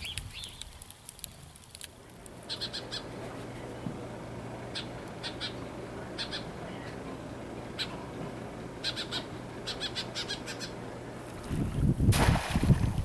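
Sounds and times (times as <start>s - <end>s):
birds calling: 0.0s - 1.2s, 2.1s - 11.4s.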